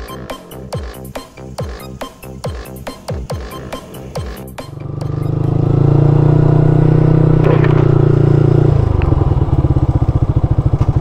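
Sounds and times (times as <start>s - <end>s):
motorcycle engine running and idling: 0.0s - 11.0s.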